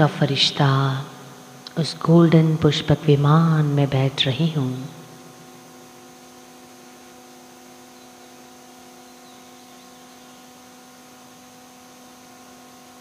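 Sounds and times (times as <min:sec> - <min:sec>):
sound system electrical hum: 0:00.0 - 0:13.0.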